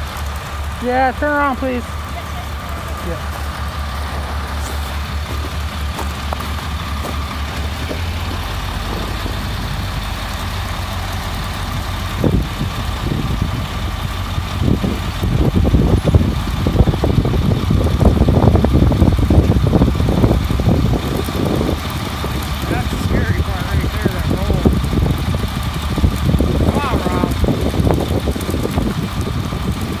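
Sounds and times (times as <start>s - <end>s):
low rumbling surges: 0.0s - 30.0s
truck engine running: 0.0s - 30.0s.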